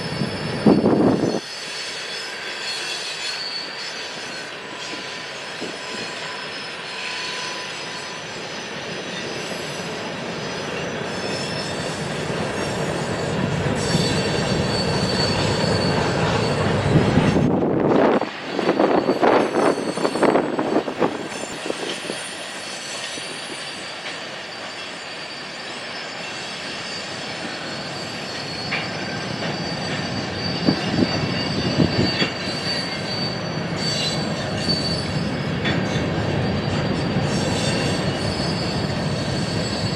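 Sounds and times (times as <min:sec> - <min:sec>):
high wheel squeal: 0:00.0 - 0:39.9
train wheels rumbling on rails: 0:00.0 - 0:39.9.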